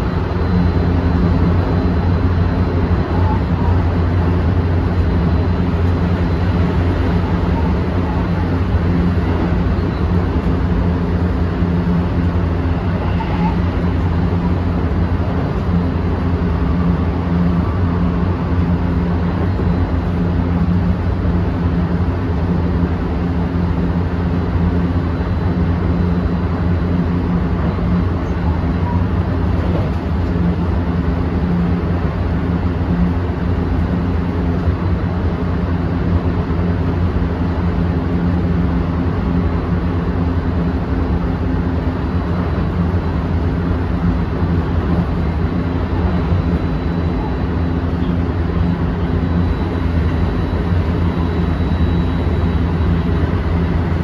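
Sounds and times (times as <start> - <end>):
steady low hum: 0.0 - 54.0
train wheels rumbling on rail: 0.0 - 54.0.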